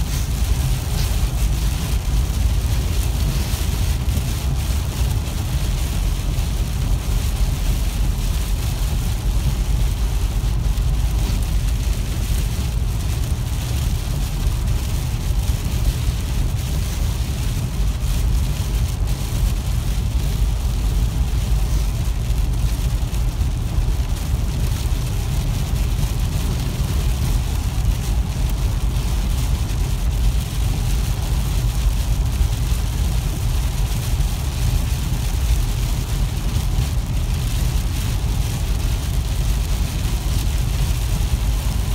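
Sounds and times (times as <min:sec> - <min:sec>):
rain and wet-road spray hiss: 0:00.0 - 0:41.9
raindrops ticking on windshield: 0:00.0 - 0:41.9
road and engine rumble: 0:00.0 - 0:41.9.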